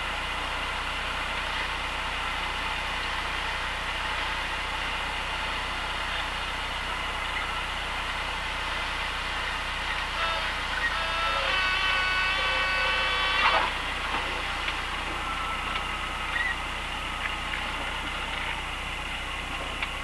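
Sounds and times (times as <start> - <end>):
piston engine drone: 0.0 - 20.0.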